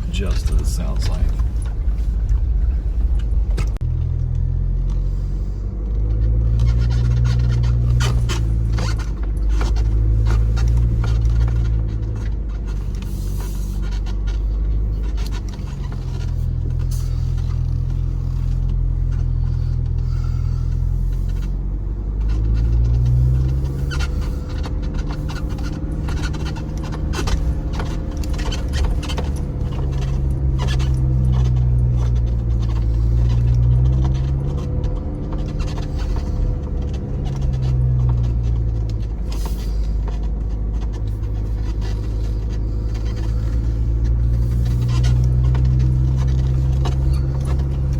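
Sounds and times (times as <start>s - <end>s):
truck engine revving: 0.0s - 47.9s
truck knocks and rattles: 5.8s - 47.9s.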